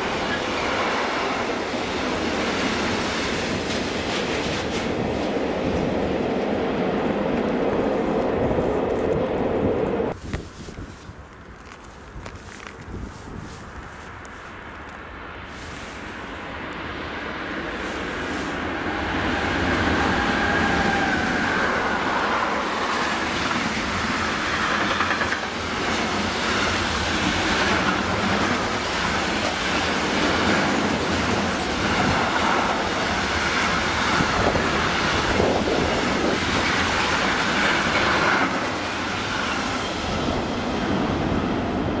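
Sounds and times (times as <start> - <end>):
freight train rumbling past: 0.0 - 10.2, 16.1 - 42.0.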